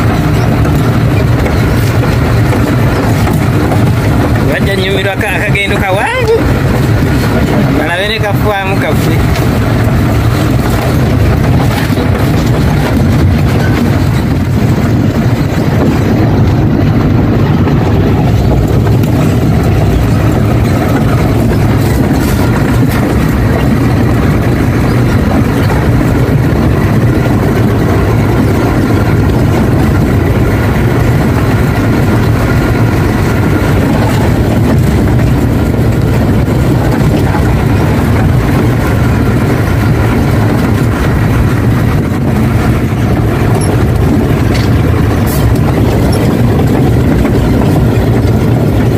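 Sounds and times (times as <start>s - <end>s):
road noise: 0.0s - 48.9s
truck diesel engine droning: 0.0s - 48.9s.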